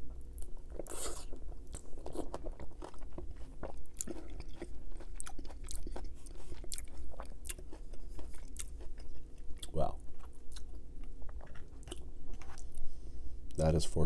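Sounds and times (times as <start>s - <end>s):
chewing food: 0.1s - 12.9s.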